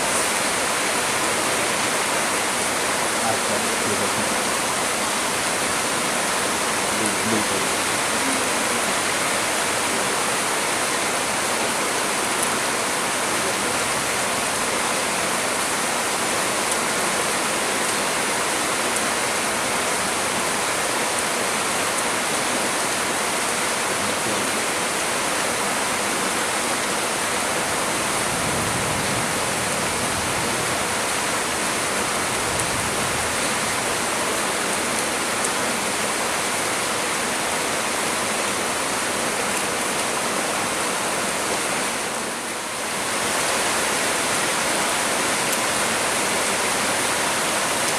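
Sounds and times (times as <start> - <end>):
heavy rain pouring on trees: 0.0 - 47.9.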